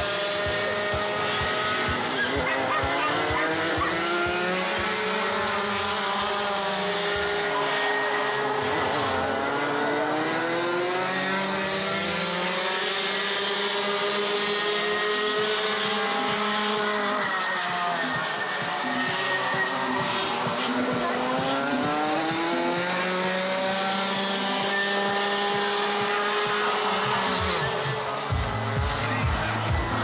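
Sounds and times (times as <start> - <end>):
kart engines revving: 0.0 - 30.0.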